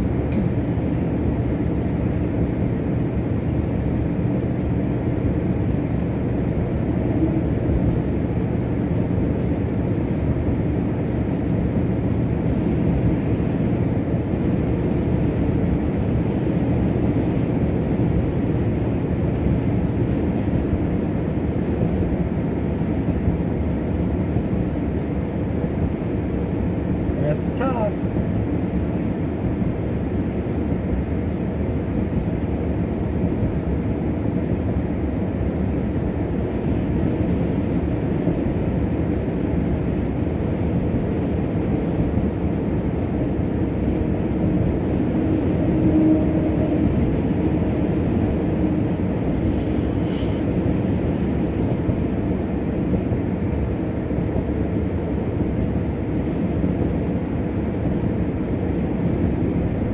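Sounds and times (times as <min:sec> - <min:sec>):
tyre and road noise inside car: 0:00.0 - 0:59.9.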